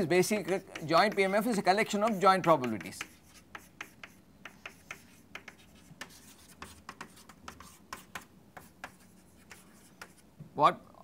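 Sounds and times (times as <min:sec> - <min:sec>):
chalk tapping and scratching on board: 0:00.1 - 0:10.3.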